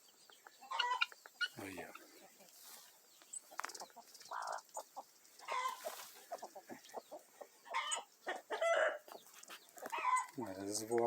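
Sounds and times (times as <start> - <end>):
fowl clucking and calling: 0.3 - 10.7.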